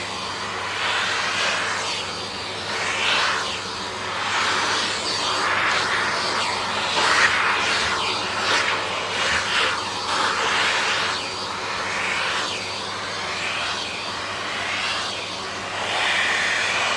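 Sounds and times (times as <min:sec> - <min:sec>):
vacuum cleaner suction hiss: 0:00.0 - 0:16.9.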